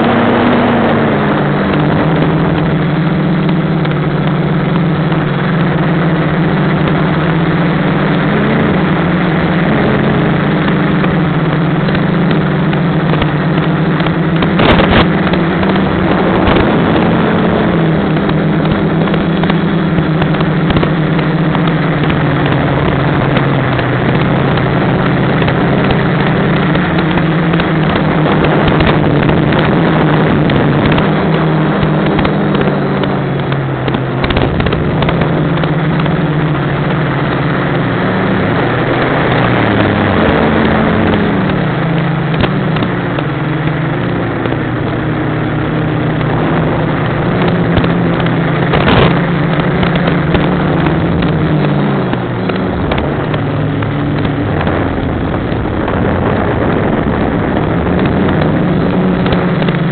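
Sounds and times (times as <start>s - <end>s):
drone motors and propellers humming: 0.0s - 59.9s
wind rushing: 0.0s - 59.9s.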